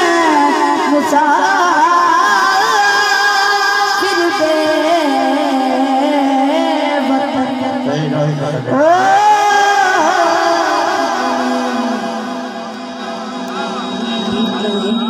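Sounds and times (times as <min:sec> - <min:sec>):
boy singing into a microphone: 0:00.0 - 0:15.0.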